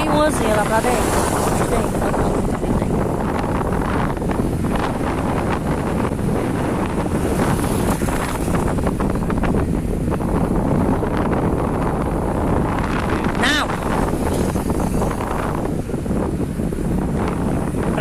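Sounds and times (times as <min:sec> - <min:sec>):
low motorcycle rumble: 0:00.0 - 0:18.0
wind rushing over microphone: 0:00.0 - 0:18.0.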